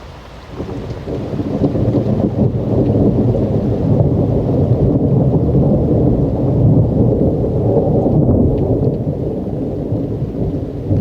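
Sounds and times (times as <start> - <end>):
steady rain: 0.0 - 11.0
thunder rumbling: 0.0 - 11.0.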